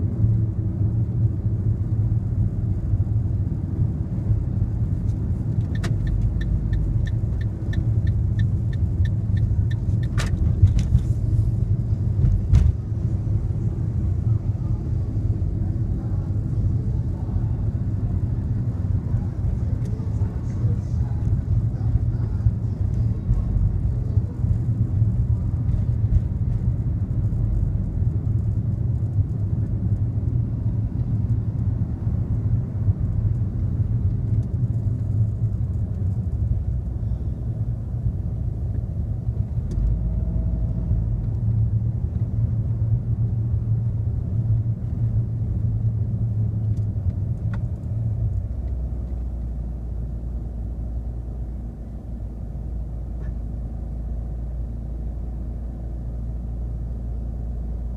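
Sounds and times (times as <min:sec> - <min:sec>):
car driving in city traffic: 0:00.0 - 0:57.9.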